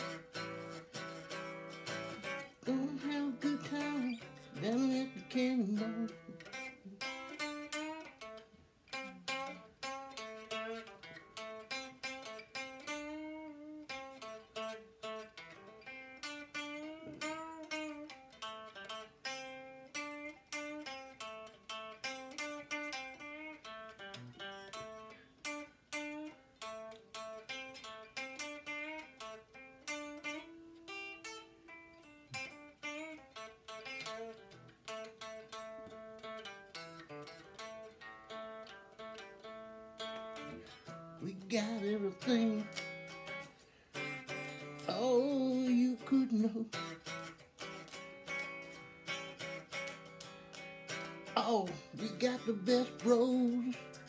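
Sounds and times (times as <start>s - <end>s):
acoustic guitar picking notes: 0.0s - 54.0s.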